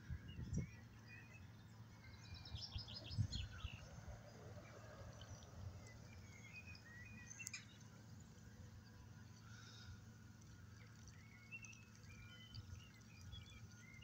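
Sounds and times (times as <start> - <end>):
faint low outdoor rumble: 0.0 - 14.0
small birds chirping: 0.0 - 14.0.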